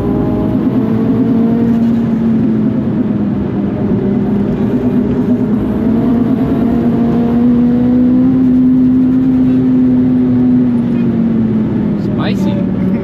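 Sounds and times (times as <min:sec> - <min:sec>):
car engine running hard: 0:00.0 - 0:13.0.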